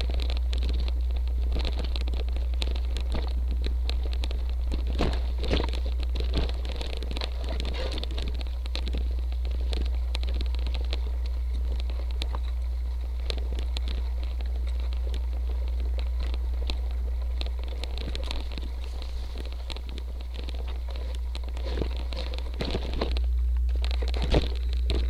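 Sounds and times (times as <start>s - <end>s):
bike rattling: 0.0s - 25.0s
bike tyres on gravel: 0.0s - 25.0s
low rumble: 0.0s - 25.0s.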